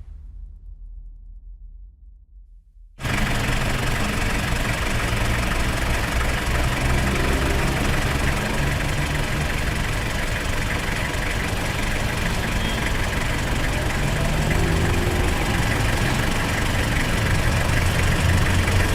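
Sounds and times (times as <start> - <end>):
bus engine idling: 3.0 - 18.9.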